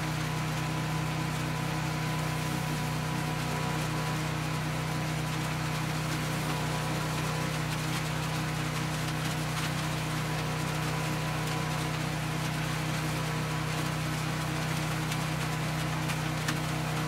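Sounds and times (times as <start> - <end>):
garden tractor engine running: 0.0 - 17.0
dry leaves being shredded: 0.2 - 17.0.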